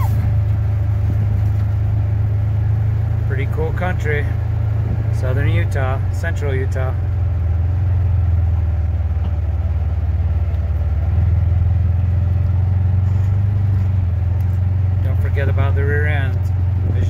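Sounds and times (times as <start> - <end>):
vehicle engine running at low speed: 0.0 - 17.0.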